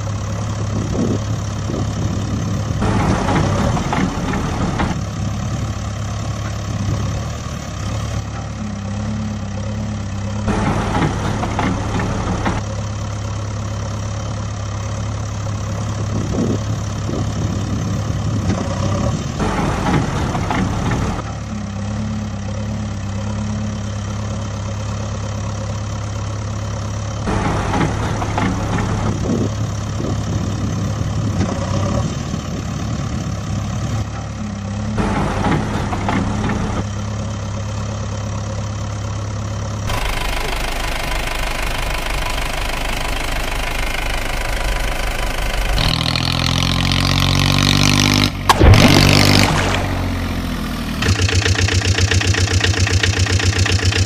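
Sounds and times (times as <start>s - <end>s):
engine idling sound effect: 0.0s - 54.0s.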